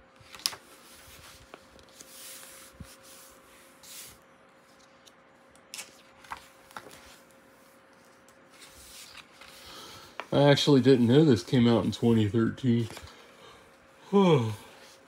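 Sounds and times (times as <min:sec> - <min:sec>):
hand rustling over paper: 0:00.2 - 0:05.0, 0:05.7 - 0:13.2
page turning: 0:00.2 - 0:13.1.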